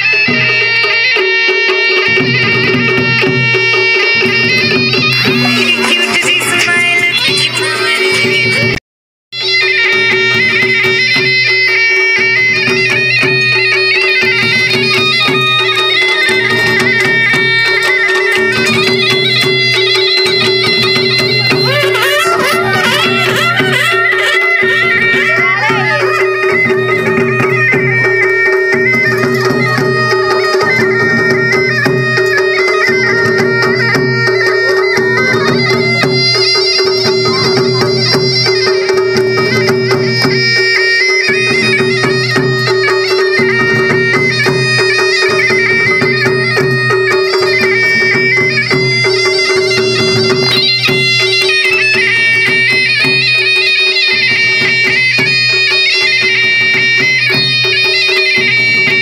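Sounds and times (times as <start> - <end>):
drums beating: 0.0 - 59.0
piped melody: 0.0 - 59.0.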